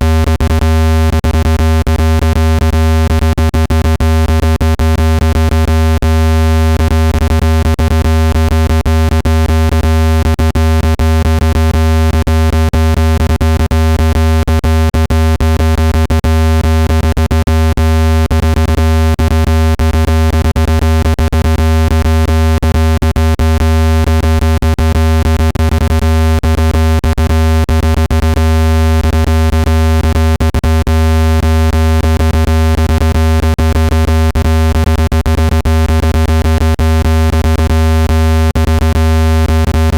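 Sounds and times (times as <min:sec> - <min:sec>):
deep synthesized buzz tone: 0:00.0 - 0:39.9.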